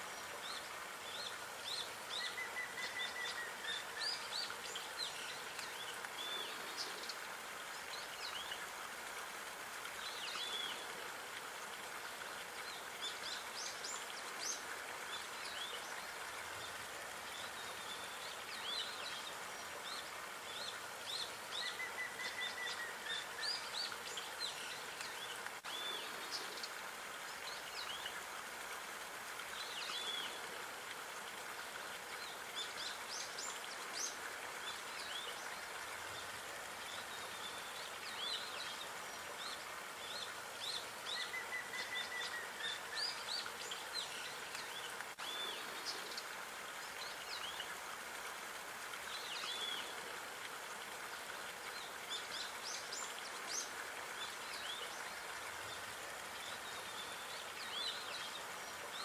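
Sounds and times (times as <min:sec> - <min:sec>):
outdoor ambience hiss: 0:00.0 - 0:59.0.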